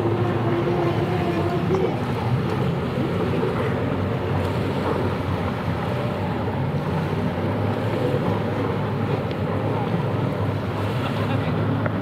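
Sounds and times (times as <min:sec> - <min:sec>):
jet ski engines droning: 0:00.0 - 0:12.0.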